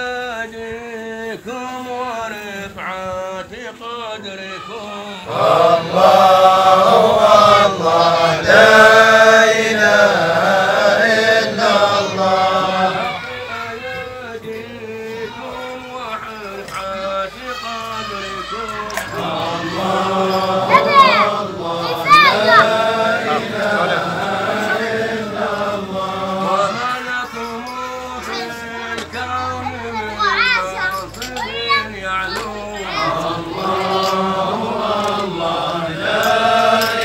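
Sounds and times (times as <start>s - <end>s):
men chanting: 0.0s - 37.0s.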